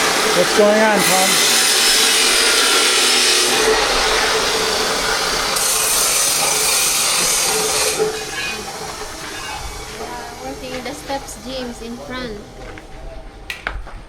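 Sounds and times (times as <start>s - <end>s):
power tool rasping hiss: 0.0s - 12.5s.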